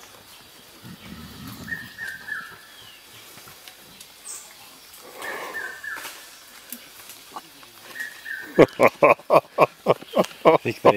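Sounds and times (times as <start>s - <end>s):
faint rainforest ambience: 0.0s - 10.9s.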